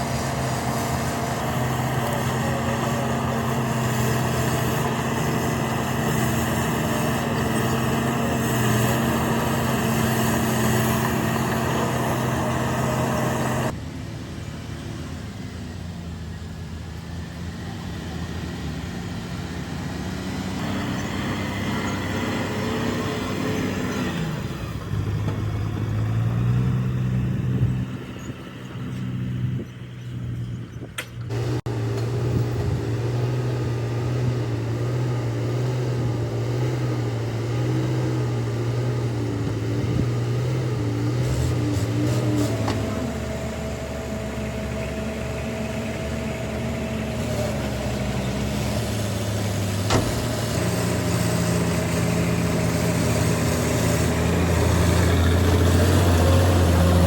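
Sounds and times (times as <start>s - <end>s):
engine revving: 0.0s - 13.8s, 17.4s - 30.4s, 31.3s - 57.0s
heavy machine diesel engines: 0.0s - 57.0s.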